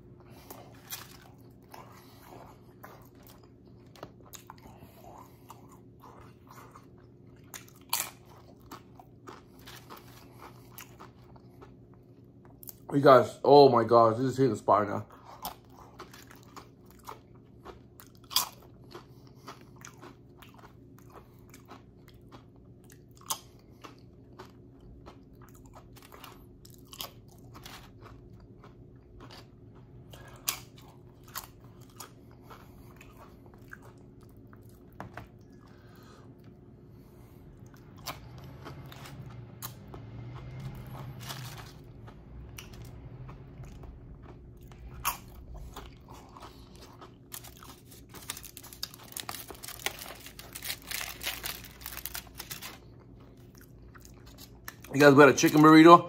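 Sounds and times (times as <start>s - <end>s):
steady low hum: 0.0s - 56.0s
crunching chips: 0.3s - 13.0s, 14.4s - 34.9s, 37.8s - 56.0s.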